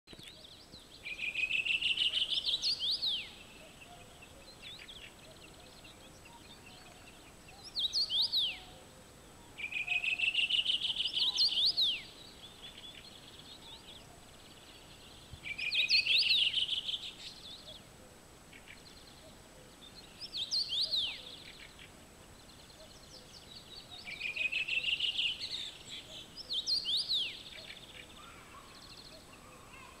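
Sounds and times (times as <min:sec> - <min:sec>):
faint background hiss: 0:00.1 - 0:30.0
songbird singing: 0:00.1 - 0:30.0.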